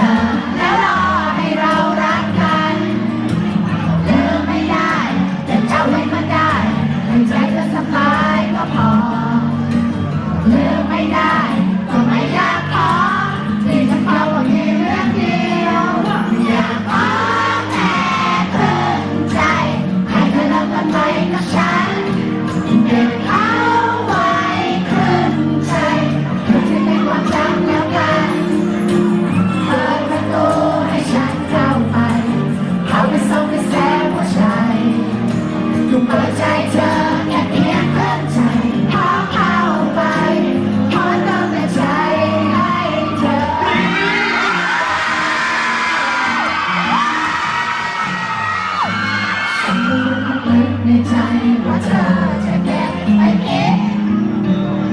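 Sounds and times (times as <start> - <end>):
backing music: 0.0 - 54.9
person singing pop song: 0.0 - 54.9.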